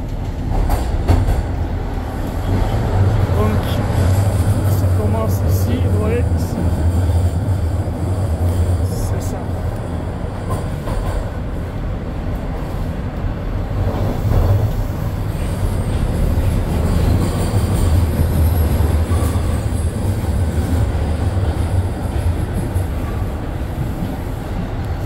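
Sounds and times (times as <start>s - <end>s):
rumble of train wheels on track: 0.0s - 25.0s.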